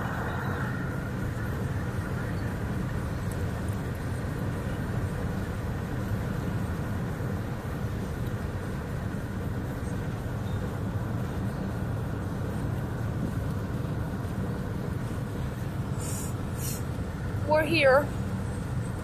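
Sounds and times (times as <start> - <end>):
car driving on paved road: 0.0 - 19.0.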